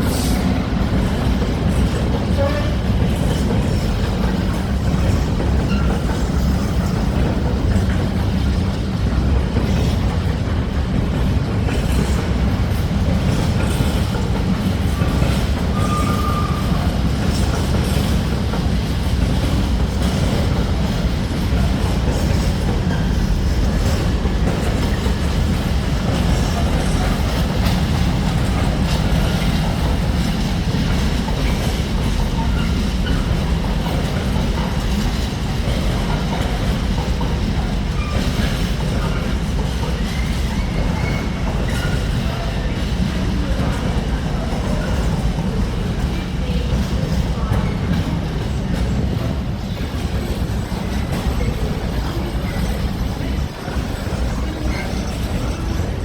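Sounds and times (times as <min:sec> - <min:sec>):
train rumbling on track: 0:00.0 - 0:56.0
train wheel clatter: 0:00.0 - 0:56.0.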